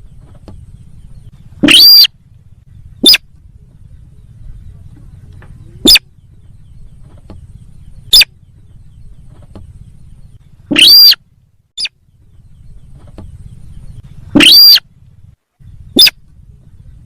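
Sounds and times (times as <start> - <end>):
overdriven bird lure calls: 0.0 - 3.8, 5.0 - 12.0, 12.7 - 15.0, 15.6 - 17.0
low hum: 0.0 - 17.0.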